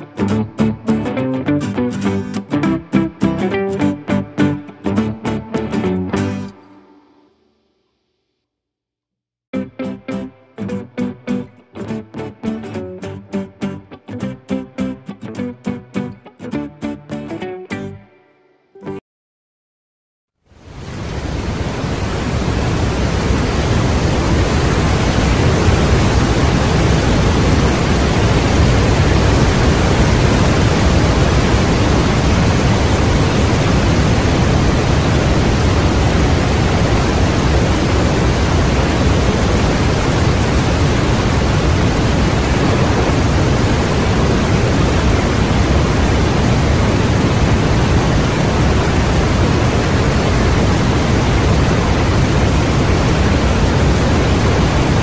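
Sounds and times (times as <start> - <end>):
waterfall rushing: 0.0 - 6.8, 9.6 - 17.9, 20.6 - 55.0.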